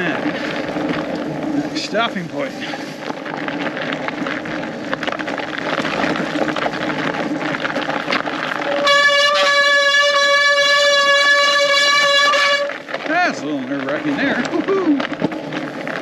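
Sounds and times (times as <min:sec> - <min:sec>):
bike tyre and frame rattle: 0:00.0 - 0:16.0
brakes squealing: 0:00.0 - 0:16.0.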